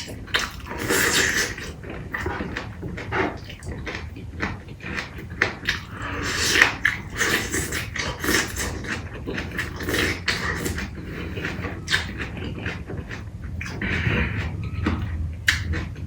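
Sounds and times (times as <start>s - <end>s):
wet chewing and lip-smacking: 0.0s - 16.0s.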